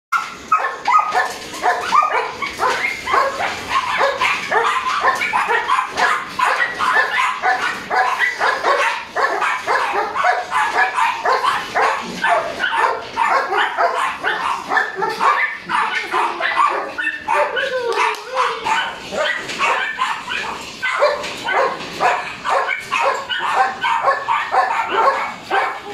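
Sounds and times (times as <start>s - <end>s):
puppy barking and yipping: 0.2s - 25.9s.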